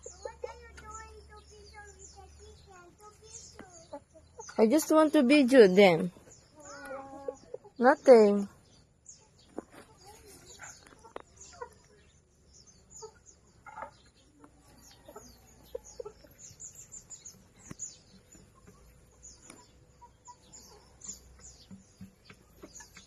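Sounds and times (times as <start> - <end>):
hens clucking: 0.0 - 1.5, 3.0 - 8.6, 9.2 - 23.0.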